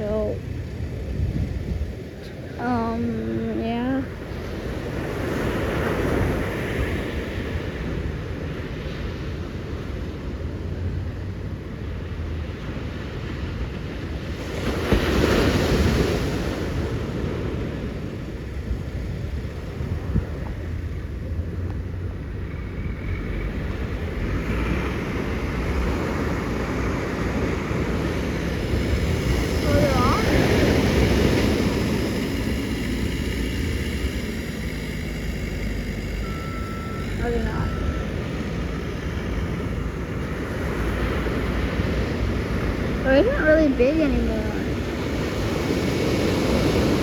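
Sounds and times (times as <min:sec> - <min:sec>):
ocean wave breaking: 0:00.0 - 0:22.5, 0:23.6 - 0:47.0
wind on microphone: 0:00.0 - 0:47.0.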